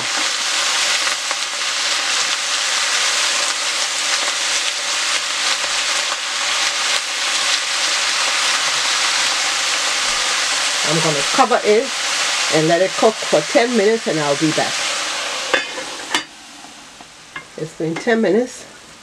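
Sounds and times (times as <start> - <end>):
cabbage sizzling in oil: 0.0 - 19.0.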